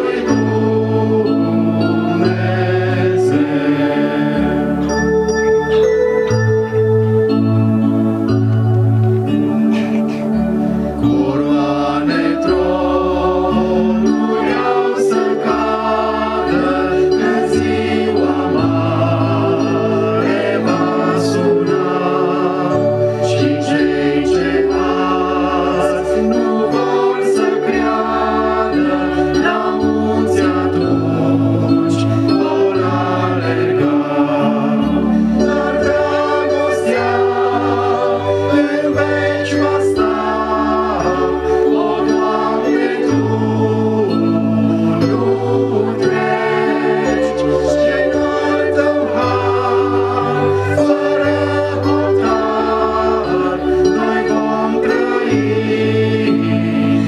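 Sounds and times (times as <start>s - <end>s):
group singing a hymn: 0.0s - 5.2s, 9.7s - 57.0s
keyboard chords: 0.0s - 57.0s.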